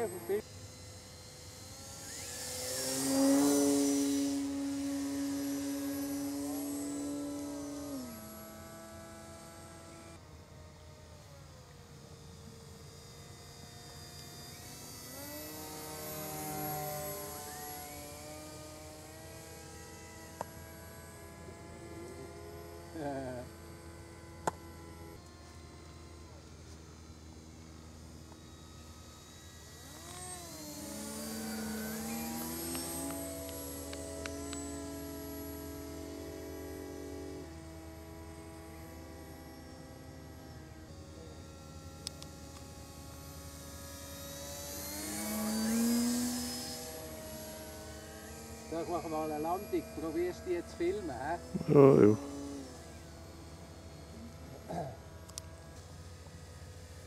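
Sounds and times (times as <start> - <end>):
model airplane motors humming: 0.0 - 57.0.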